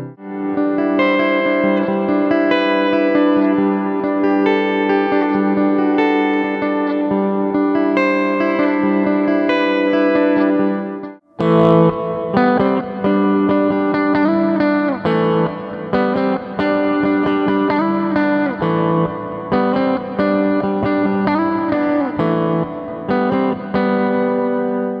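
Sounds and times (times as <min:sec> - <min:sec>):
electric guitar chords with bent notes: 0:00.0 - 0:25.0.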